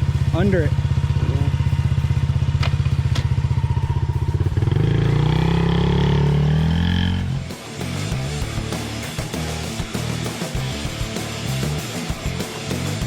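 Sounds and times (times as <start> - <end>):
small engine idling and revving: 0.0 - 13.0.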